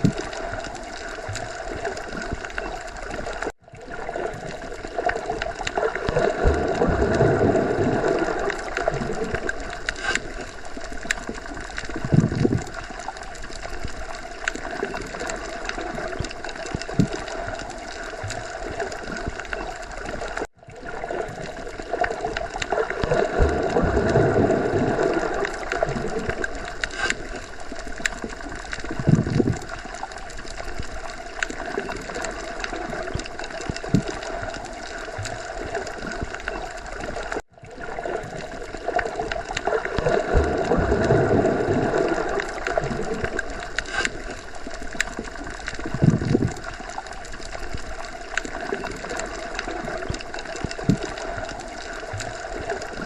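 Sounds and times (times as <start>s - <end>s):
muffled underwater water wash: 0.0s - 53.0s.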